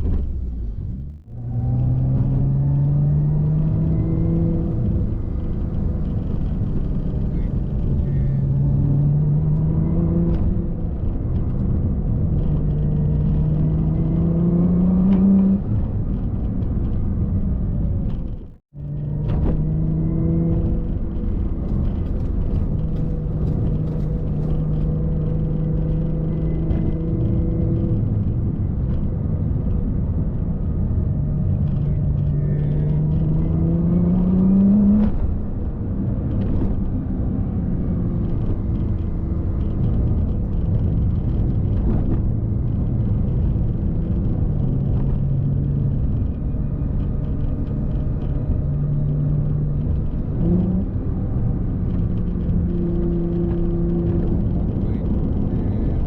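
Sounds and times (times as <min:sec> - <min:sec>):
car engine: 0:00.0 - 0:56.0
road rumble: 0:00.0 - 0:56.0.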